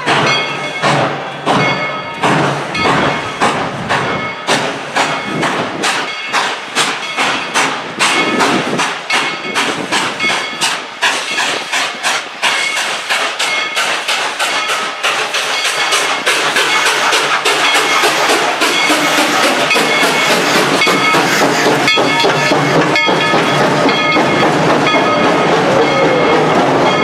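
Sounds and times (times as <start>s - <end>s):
steam locomotive chuffing: 0.0s - 27.0s.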